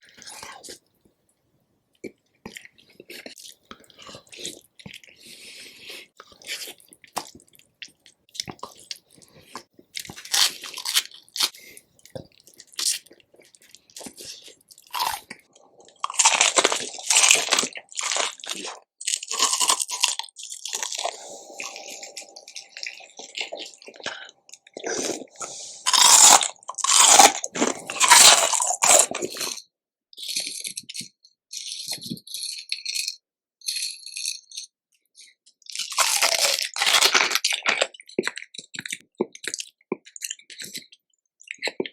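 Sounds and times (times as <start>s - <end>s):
crunching and chewing: 1.9s - 41.9s.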